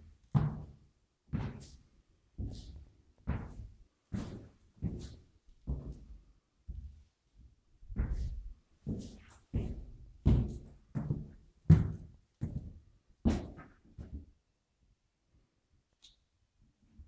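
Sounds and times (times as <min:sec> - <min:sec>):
footsteps on bare floor: 0:00.3 - 0:14.3.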